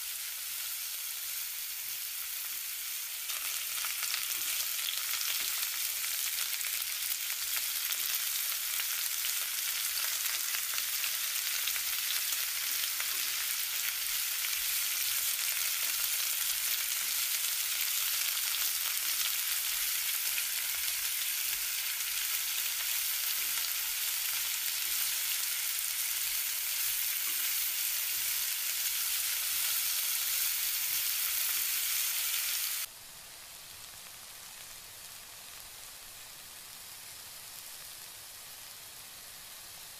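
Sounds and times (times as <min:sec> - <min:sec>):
onions frying in oil: 0:00.0 - 0:39.9.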